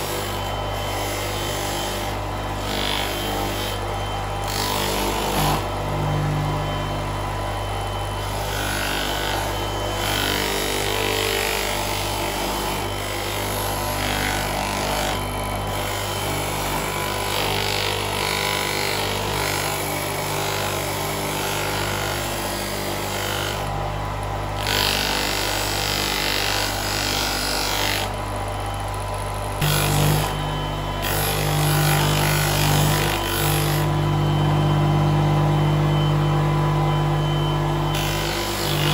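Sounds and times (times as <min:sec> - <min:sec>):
electric motor humming: 0:00.0 - 0:38.9.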